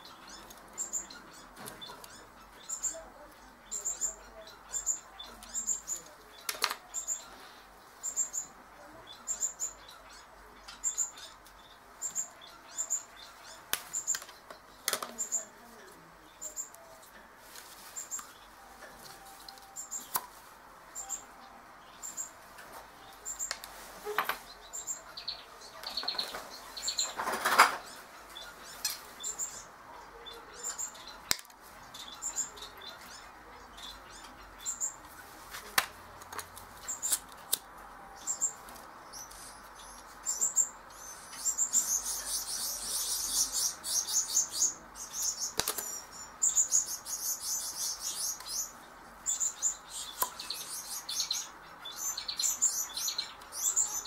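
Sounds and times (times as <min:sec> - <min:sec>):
budgerigars chirping: 0:00.0 - 0:16.9, 0:21.0 - 0:35.4, 0:38.1 - 0:54.0.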